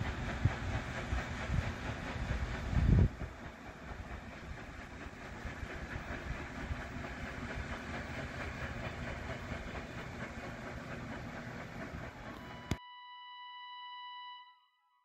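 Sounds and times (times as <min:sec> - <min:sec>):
paddlewheel churning water: 0:00.0 - 0:12.6.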